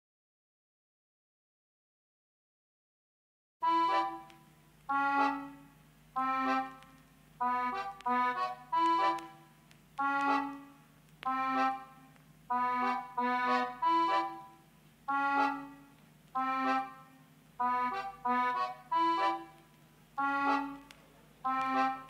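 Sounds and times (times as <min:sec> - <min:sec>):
short bright chords: 0:03.6 - 0:22.0.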